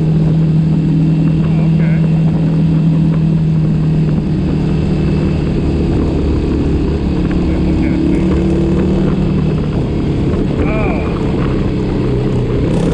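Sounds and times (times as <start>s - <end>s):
heavy low rumble: 0.0s - 12.9s
vehicle engine running: 0.0s - 12.9s.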